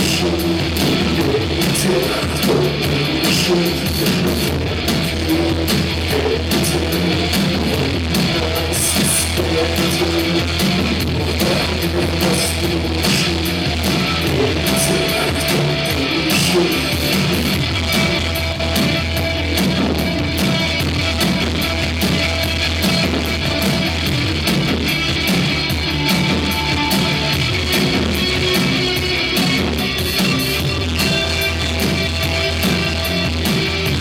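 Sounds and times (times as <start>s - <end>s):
drums: 0.0s - 34.0s
electric guitar: 0.0s - 34.0s.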